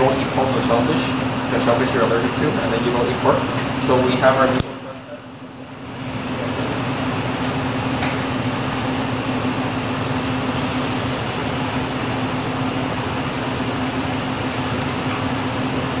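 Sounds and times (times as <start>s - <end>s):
ventilation fan running: 0.0s - 16.0s.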